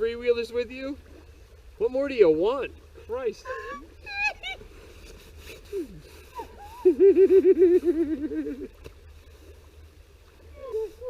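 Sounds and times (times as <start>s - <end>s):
faint stream running: 0.0s - 11.0s.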